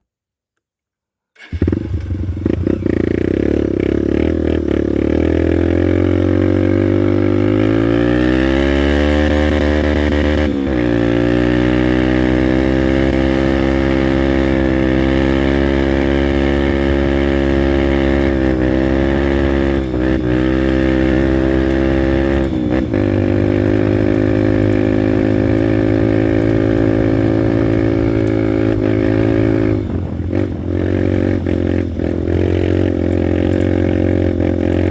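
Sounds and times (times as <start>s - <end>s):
motorcycle engine pulling away: 1.4s - 34.9s.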